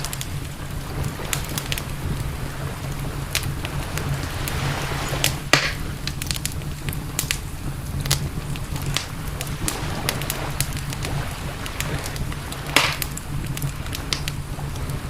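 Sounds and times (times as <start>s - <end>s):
campfire crackling: 0.0s - 15.0s
sharp pops of fire: 0.0s - 15.0s
steady low rumble: 0.0s - 15.0s.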